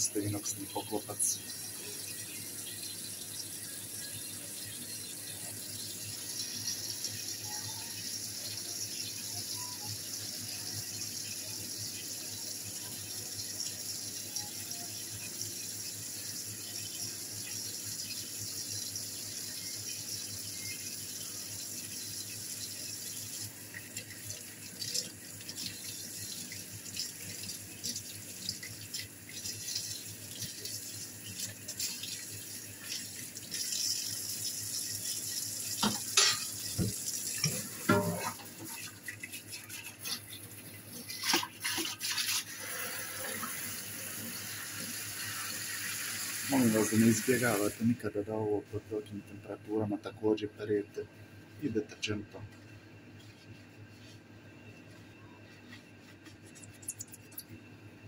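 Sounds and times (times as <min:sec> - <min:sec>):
faucet running into steel sink: 0:00.0 - 0:47.8.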